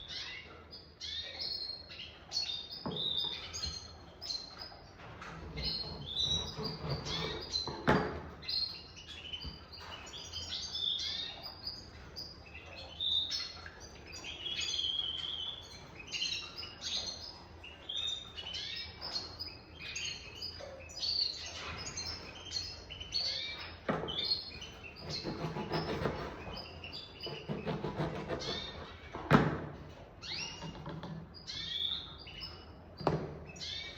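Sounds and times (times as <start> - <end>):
cage birds chirping and twittering: 0.0 - 33.9.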